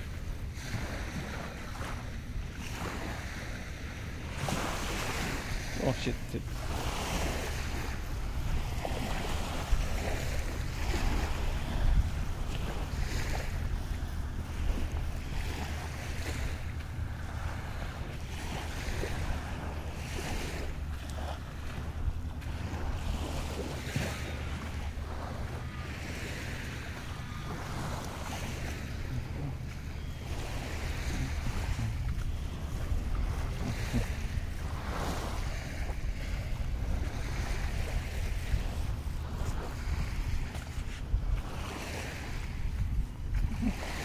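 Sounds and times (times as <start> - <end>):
wind on microphone: 0.0 - 44.0.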